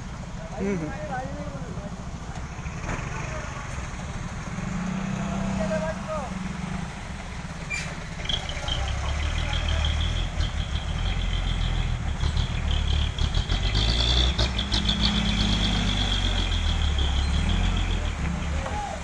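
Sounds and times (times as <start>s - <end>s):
diesel truck engine labouring: 0.0s - 19.0s.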